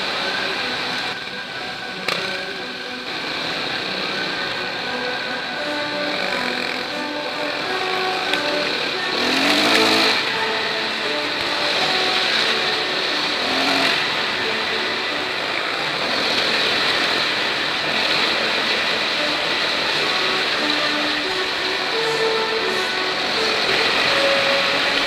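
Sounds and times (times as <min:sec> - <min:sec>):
wind and road noise: 0:00.0 - 0:25.0
dirt bike engine running: 0:02.0 - 0:22.5.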